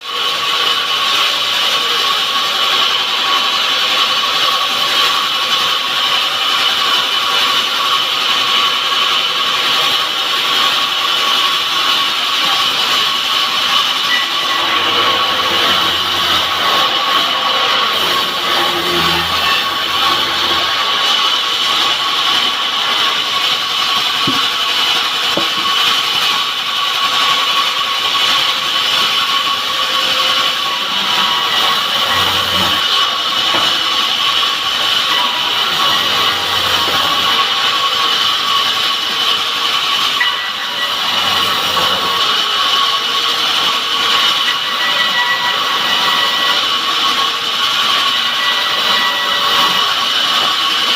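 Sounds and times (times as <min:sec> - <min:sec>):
circular saw cutting wood: 0:00.0 - 0:50.9.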